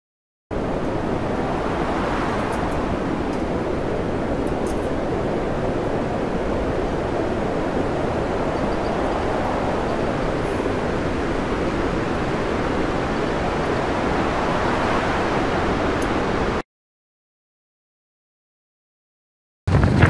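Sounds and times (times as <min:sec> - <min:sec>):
heavy seas crashing: 0:00.5 - 0:16.6
storm wind: 0:00.5 - 0:16.6, 0:19.7 - 0:20.0.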